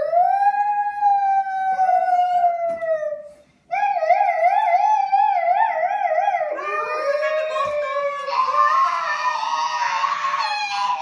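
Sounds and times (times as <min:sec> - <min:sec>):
children imitating a siren: 0:00.0 - 0:11.0.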